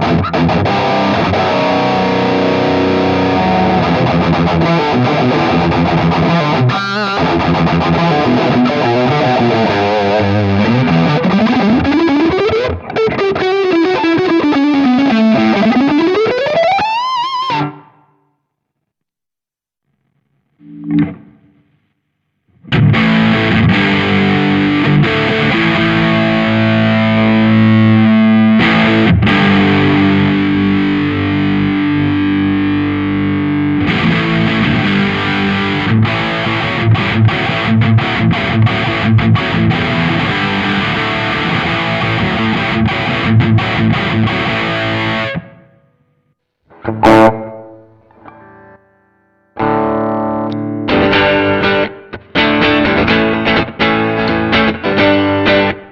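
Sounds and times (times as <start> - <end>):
distorted electric guitar: 0.0 - 18.2, 19.9 - 55.9.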